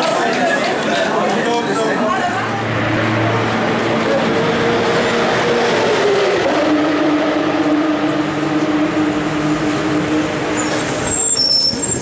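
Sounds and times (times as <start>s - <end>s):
race car engine slowing: 1.5s - 12.0s.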